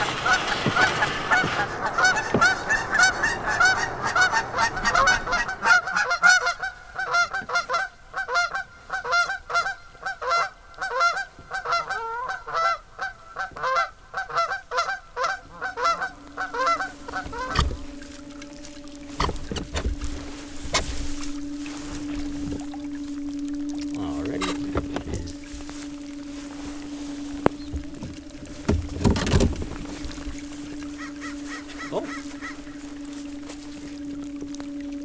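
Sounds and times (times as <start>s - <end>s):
flock of birds calling: 0.0s - 35.0s
low steady hum: 0.0s - 35.0s.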